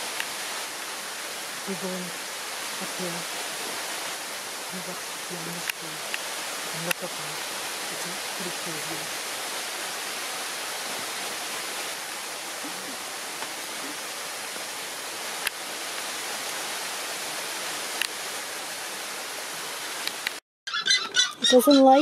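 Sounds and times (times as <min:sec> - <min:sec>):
steady hiss: 0:00.0 - 0:20.4.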